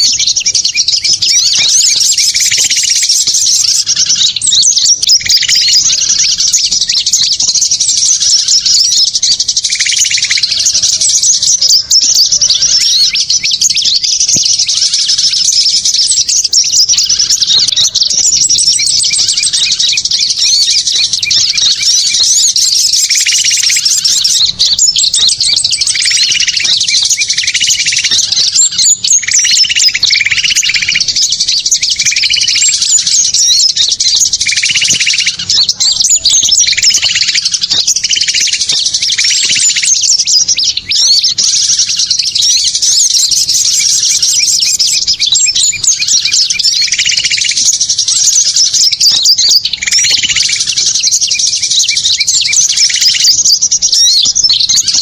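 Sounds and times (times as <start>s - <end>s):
lower repeated bird call: 0.0s - 55.0s
songbirds chirping and twittering: 0.0s - 55.0s.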